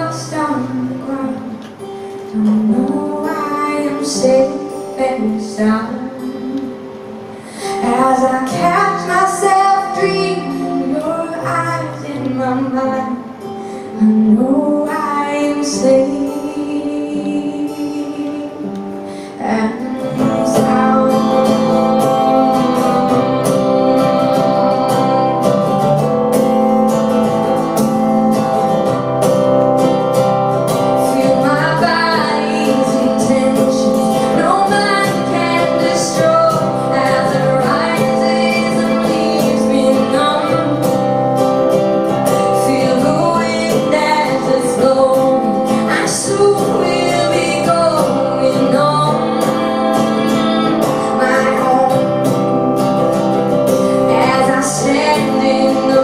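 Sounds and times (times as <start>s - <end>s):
woman singing: 0.0s - 28.7s, 30.2s - 56.0s
strummed acoustic guitar: 0.0s - 56.0s.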